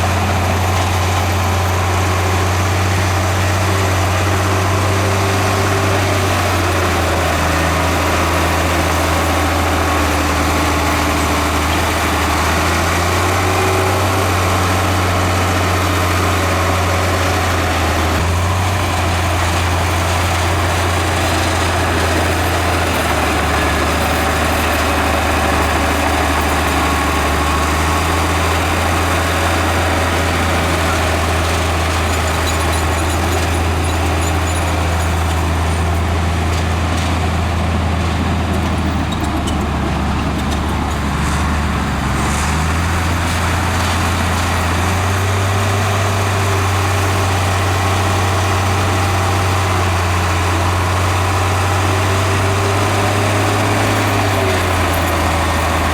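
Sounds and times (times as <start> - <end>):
heavy diesel machinery engine hum: 0.0 - 55.9.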